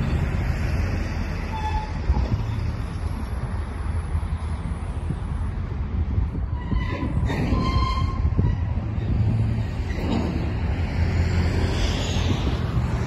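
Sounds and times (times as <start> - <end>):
steel wheels rumbling on track: 0.0 - 13.0.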